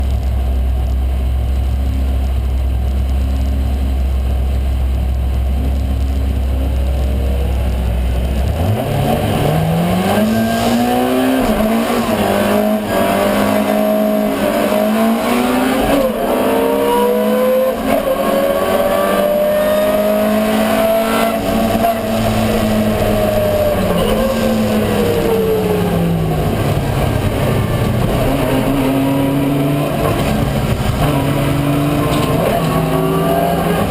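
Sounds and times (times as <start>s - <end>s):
race car engine accelerating: 6.2s - 33.9s.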